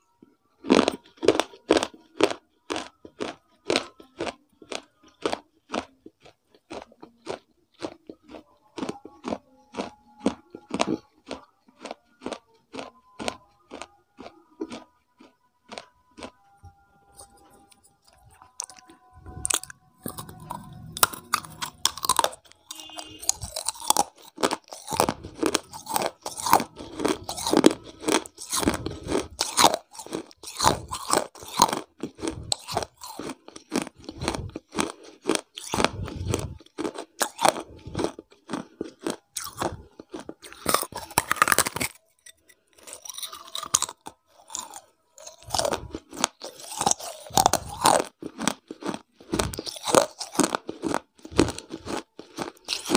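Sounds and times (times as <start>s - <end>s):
clay pieces crunching when chewed: 0.2s - 52.9s.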